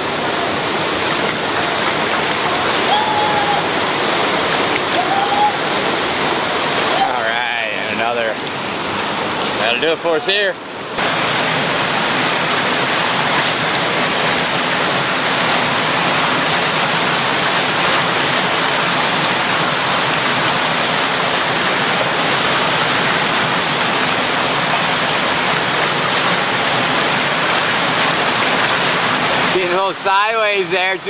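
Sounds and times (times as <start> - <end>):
river rapids roaring: 0.0 - 31.0.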